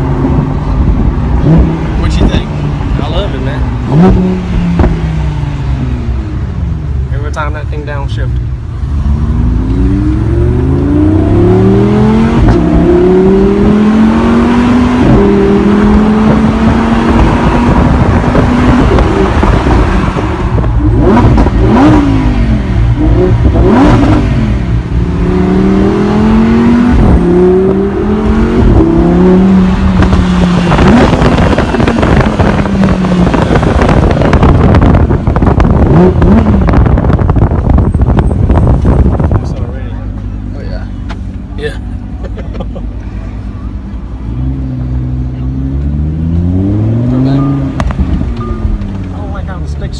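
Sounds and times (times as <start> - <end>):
sports car engine accelerating: 0.0 - 49.9.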